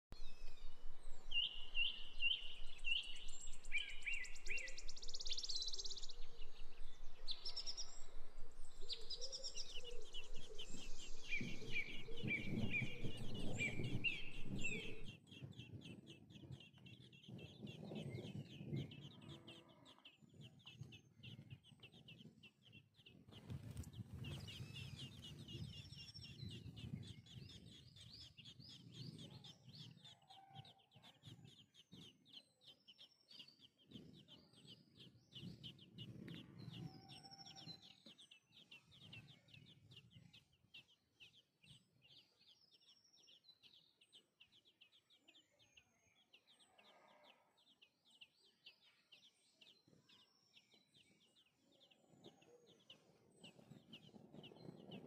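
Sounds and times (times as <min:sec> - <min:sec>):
bird calls: 0:00.2 - 0:55.0
nestlings chirping: 0:08.9 - 0:45.4, 0:46.1 - 0:55.0.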